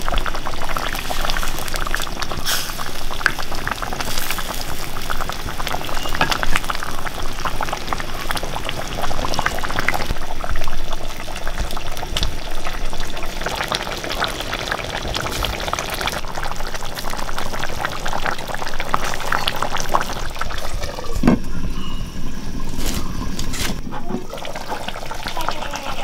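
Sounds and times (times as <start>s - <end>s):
curry bubbling in a pan: 0.0s - 21.1s, 23.4s - 26.0s.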